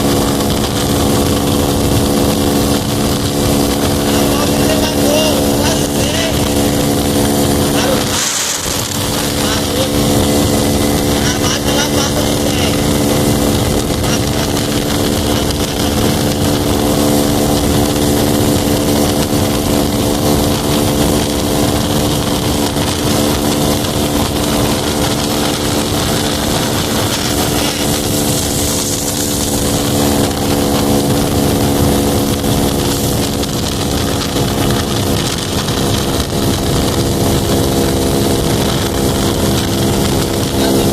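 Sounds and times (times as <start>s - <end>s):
broad hiss: 0.0s - 40.9s
motorcycle engine running steadily: 0.0s - 40.9s.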